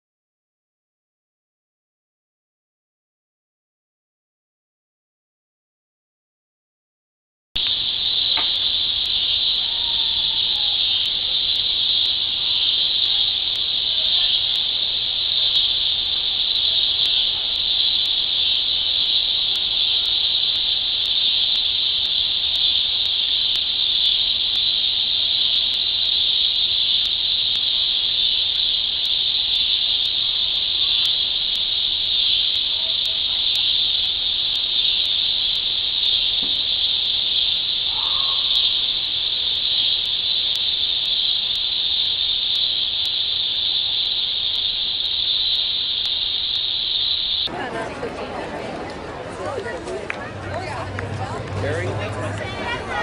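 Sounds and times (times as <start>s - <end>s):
cicadas buzzing: 7.6s - 53.0s.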